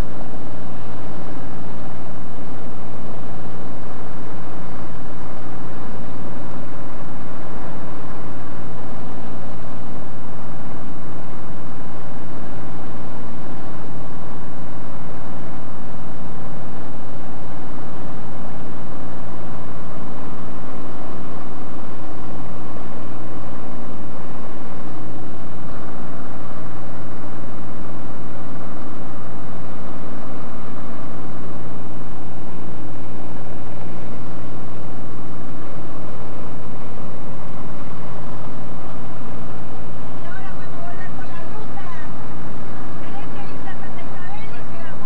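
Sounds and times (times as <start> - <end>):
aircraft engine droning in cabin: 0.0 - 45.0.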